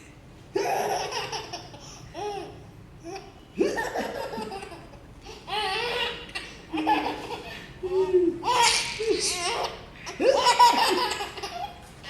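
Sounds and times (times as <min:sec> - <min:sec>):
baby laughing: 0:00.6 - 0:11.8.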